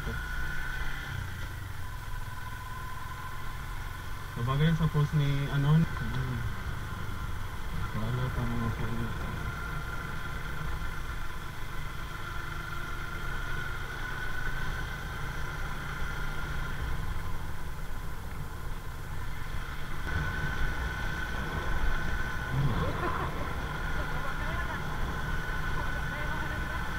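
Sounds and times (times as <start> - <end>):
engine whine: 0.0 - 26.9
motorcycle engine rumble: 0.0 - 26.9
road and wind noise: 0.0 - 26.9.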